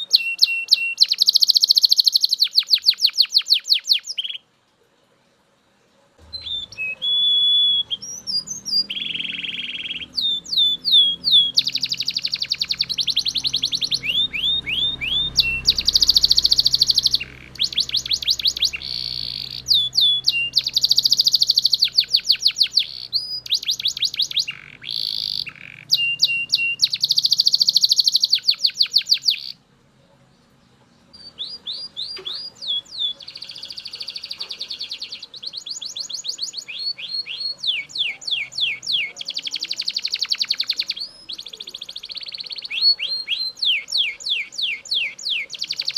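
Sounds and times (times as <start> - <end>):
canary singing: 0.0 - 4.5, 6.2 - 45.9.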